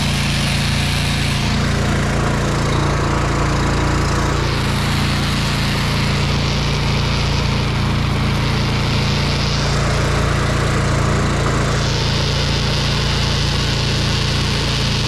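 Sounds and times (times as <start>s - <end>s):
pressure washer engine humming: 0.0s - 15.0s
water spray: 0.0s - 15.0s.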